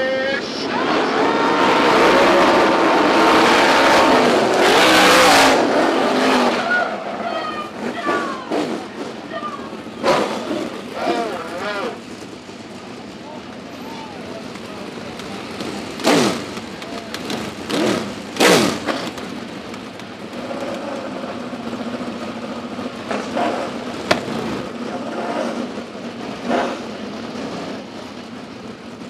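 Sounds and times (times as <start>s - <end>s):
steady engine drone: 0.0s - 29.0s
vehicle engines revving: 0.0s - 29.0s.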